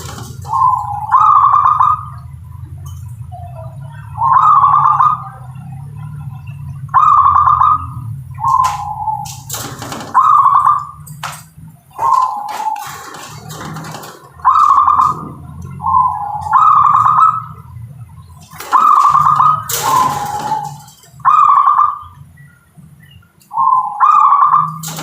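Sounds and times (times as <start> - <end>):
dove cooing: 0.0 - 2.4, 3.3 - 11.2, 11.8 - 22.2, 23.5 - 25.0.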